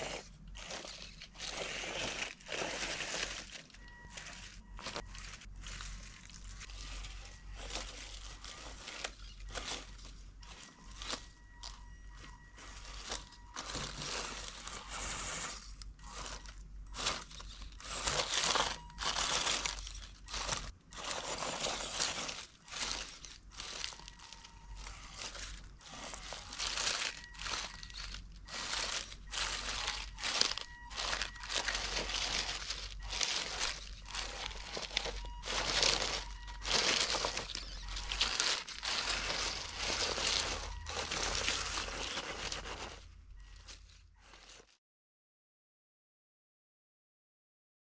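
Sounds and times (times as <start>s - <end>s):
faint electric motor whine: 0.0s - 44.7s
leaves and stones crunching: 0.0s - 44.8s.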